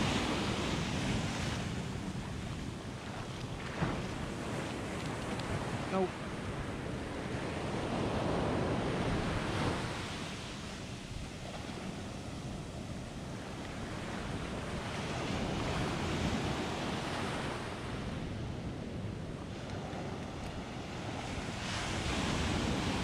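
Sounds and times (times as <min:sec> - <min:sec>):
surf breaking on beach: 0:00.0 - 0:23.0.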